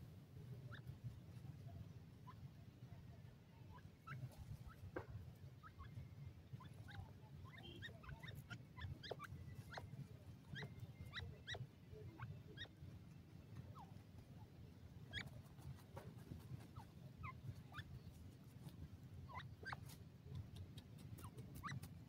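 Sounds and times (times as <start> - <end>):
young birds peeping: 0.0 - 22.0.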